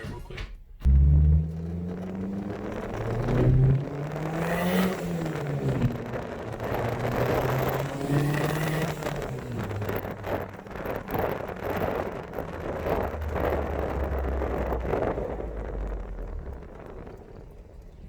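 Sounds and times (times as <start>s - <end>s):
pickup truck engine drone: 0.0s - 18.0s
wind and road noise: 0.0s - 18.0s.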